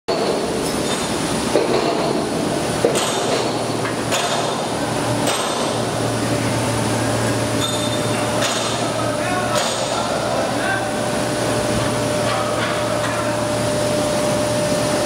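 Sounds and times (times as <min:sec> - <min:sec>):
production line machinery: 0:00.1 - 0:15.0.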